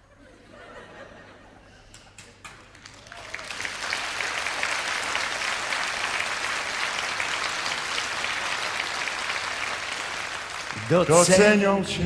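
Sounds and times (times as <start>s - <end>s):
audience applauding: 1.9s - 12.0s.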